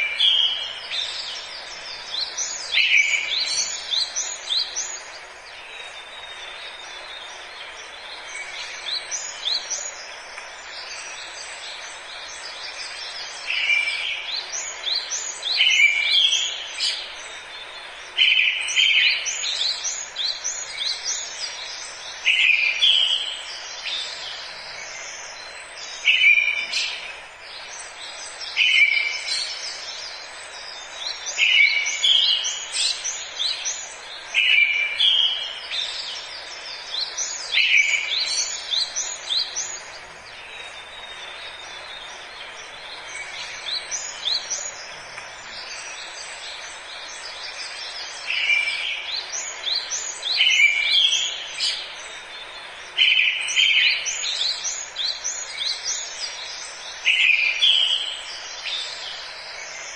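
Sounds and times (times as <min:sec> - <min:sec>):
songbird singing: 0:00.0 - 0:59.9
steady background hiss: 0:00.0 - 0:59.9.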